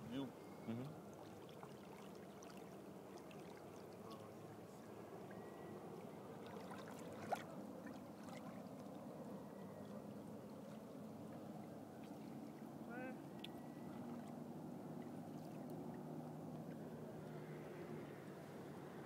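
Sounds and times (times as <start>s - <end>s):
water lapping against hull: 0.4s - 17.6s.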